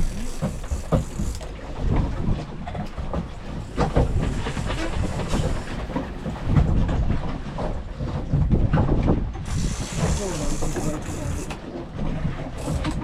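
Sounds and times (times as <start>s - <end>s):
boat engine low rumble: 0.0s - 13.0s
wind buffeting microphone: 0.0s - 13.0s.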